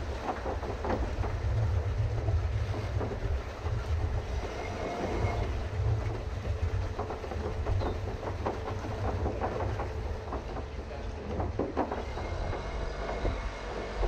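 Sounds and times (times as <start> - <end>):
low rumble of pedal boat: 0.0 - 14.0.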